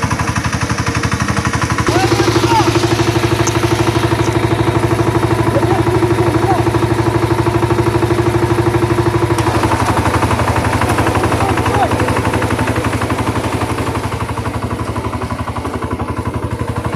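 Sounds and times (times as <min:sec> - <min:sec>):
ploughing machine engine running: 0:00.0 - 0:16.9.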